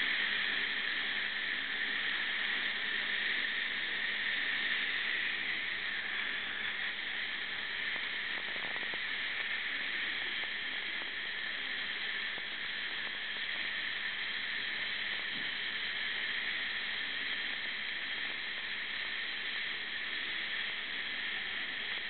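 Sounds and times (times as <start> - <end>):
dental laser hissing: 0.0 - 22.0
faint steady hum: 0.0 - 22.0.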